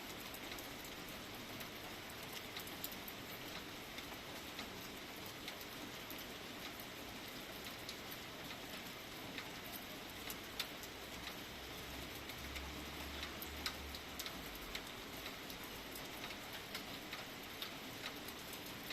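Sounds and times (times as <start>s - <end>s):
drops dripping onto a surface: 0.0s - 18.9s
light rain hissing: 0.0s - 18.9s.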